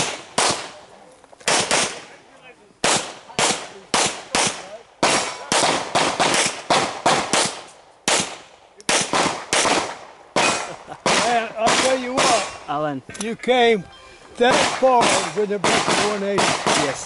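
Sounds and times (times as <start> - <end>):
pistol shots: 0.0 - 0.8, 1.4 - 2.1, 2.8 - 12.6, 14.4 - 17.0.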